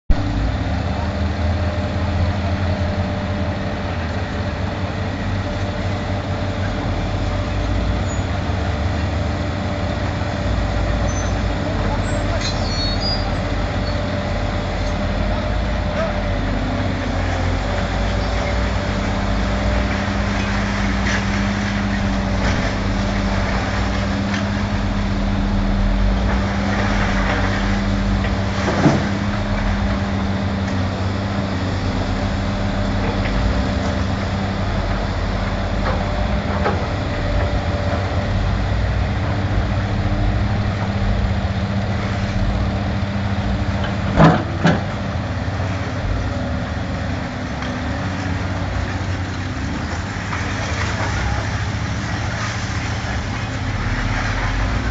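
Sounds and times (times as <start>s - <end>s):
heavy diesel engine running: 0.1s - 54.9s.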